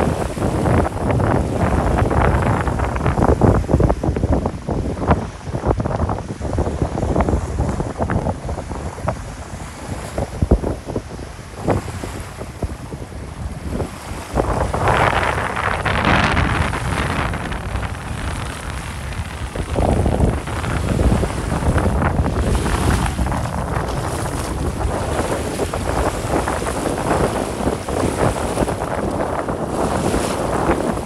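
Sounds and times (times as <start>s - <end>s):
small waves lapping on sand: 0.0s - 31.0s
wind buffeting microphone: 0.0s - 31.0s.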